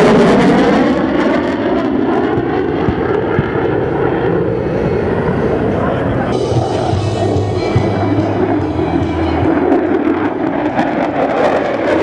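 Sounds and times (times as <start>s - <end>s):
fighter jet flying overhead: 0.0s - 12.0s.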